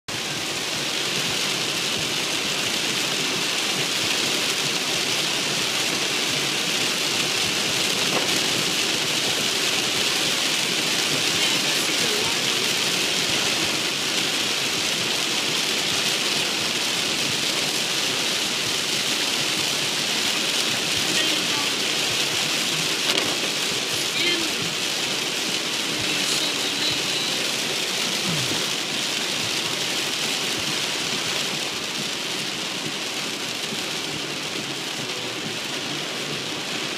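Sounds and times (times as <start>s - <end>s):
heavy rain on car roof: 0.1s - 36.9s.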